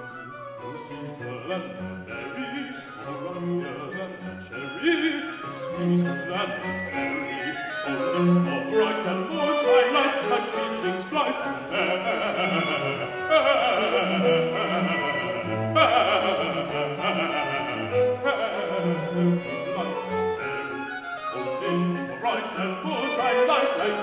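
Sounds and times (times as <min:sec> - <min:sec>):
man singing an aria: 0:00.0 - 0:24.0
string ensemble playing: 0:00.0 - 0:24.0.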